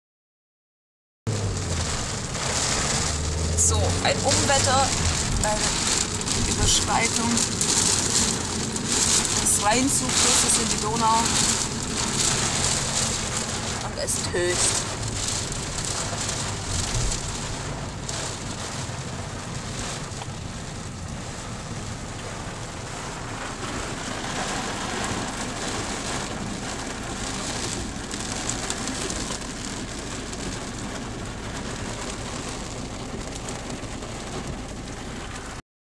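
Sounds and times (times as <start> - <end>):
heavy rain pouring: 1.3 - 35.6.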